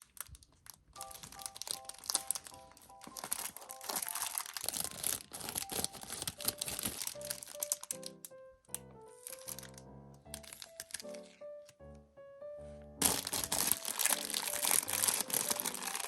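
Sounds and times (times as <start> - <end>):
plastic wrapper crinkling: 0.0 - 11.9, 13.0 - 16.0
background music repeated notes: 1.0 - 16.0.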